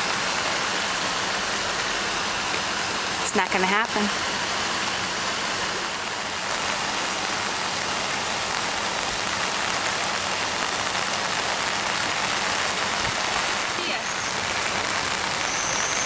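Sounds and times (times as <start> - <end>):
floodwater rushing: 0.0 - 16.0
heavy rain falling: 0.0 - 16.0.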